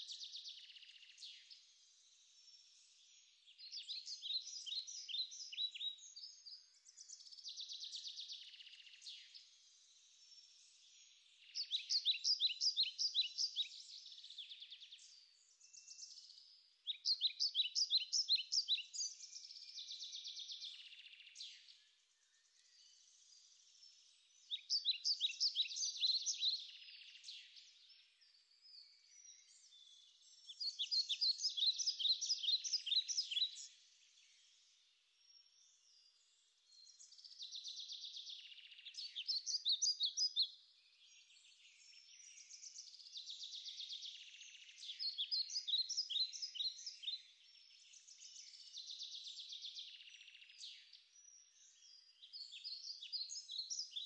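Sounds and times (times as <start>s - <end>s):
small songbird singing: 0.0s - 54.0s.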